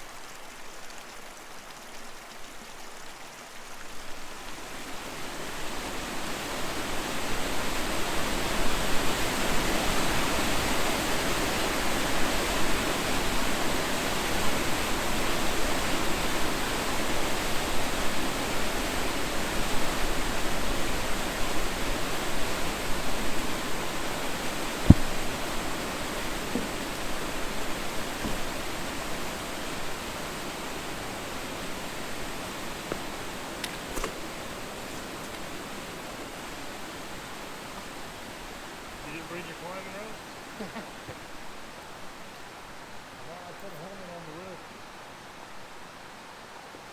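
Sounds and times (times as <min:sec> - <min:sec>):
creek water rushing: 0:00.0 - 0:46.9.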